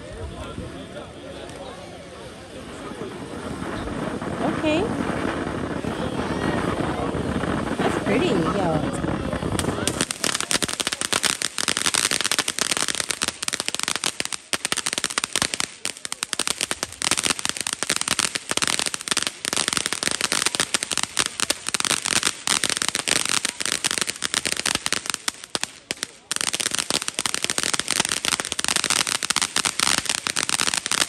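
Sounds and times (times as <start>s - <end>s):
firecrackers popping: 0.0s - 31.0s.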